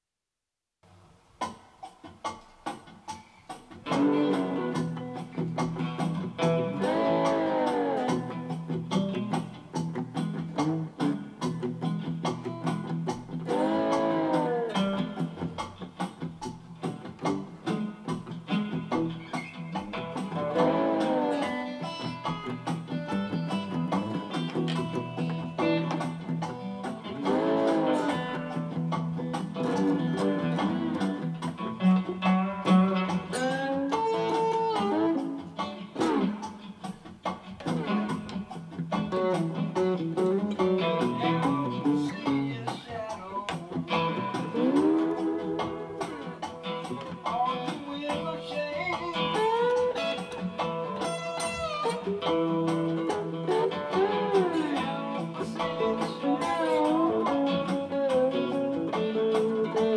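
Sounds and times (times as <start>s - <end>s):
acoustic guitar rhythm: 1.4s - 59.9s
slide guitar gliding notes: 3.9s - 16.3s, 17.0s - 59.9s.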